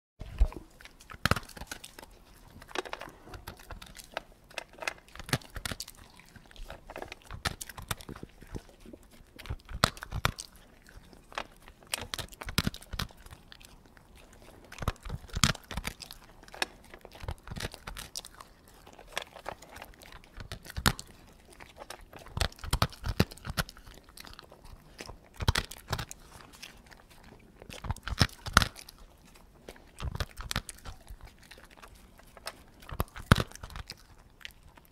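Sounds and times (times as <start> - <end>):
dog chewing and crunching food: 0.2 - 34.9.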